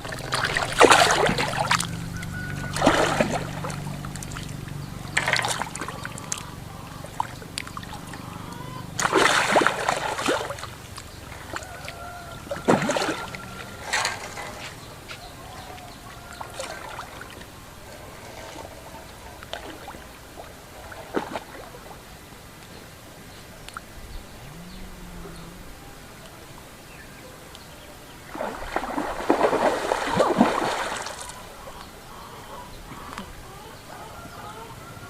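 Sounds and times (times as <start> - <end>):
water splashing: 0.0 - 26.9, 28.1 - 32.2
steady watery background: 0.0 - 35.0.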